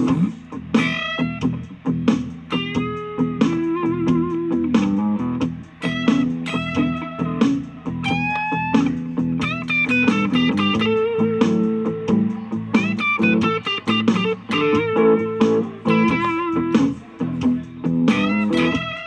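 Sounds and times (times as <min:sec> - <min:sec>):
electric guitar blues licks: 0:00.0 - 0:19.0.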